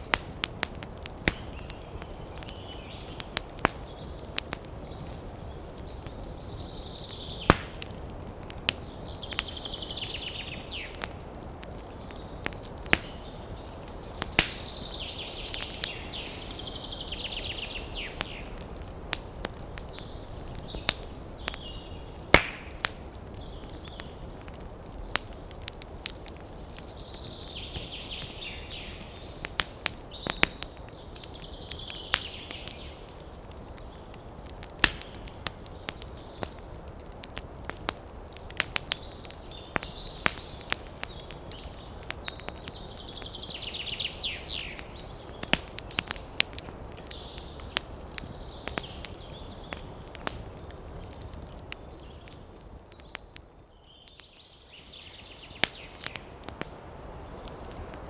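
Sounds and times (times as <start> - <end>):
campfire crackling and popping: 0.0 - 58.0
hiss of wind and fire: 0.0 - 58.0.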